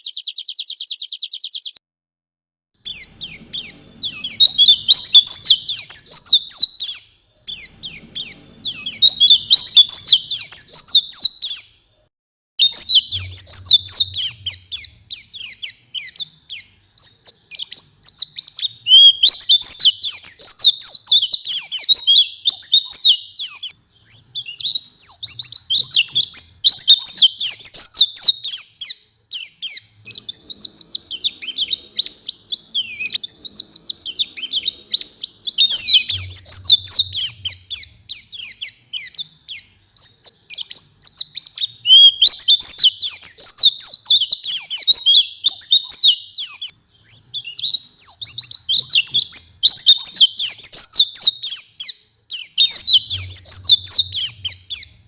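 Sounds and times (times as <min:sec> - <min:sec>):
bird twittering song: 0:00.0 - 0:01.8, 0:02.8 - 0:55.0.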